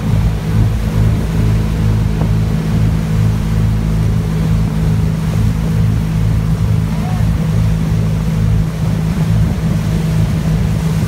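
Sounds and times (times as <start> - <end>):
boat wake rushing: 0.0 - 11.0
motorboat engine humming: 0.0 - 11.0.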